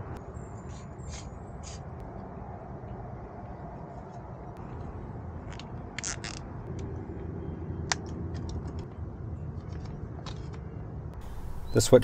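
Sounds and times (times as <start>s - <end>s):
low background rumble: 2.0s - 12.0s.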